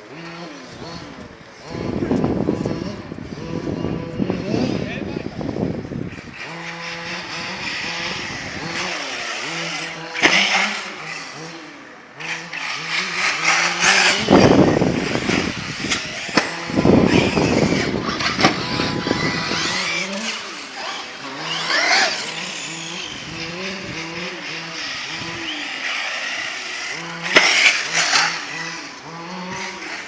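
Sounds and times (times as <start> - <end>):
rc car motor buzzing: 0.0 - 30.0
loud rushes of noise: 0.2 - 30.0
rising whines: 0.6 - 30.0.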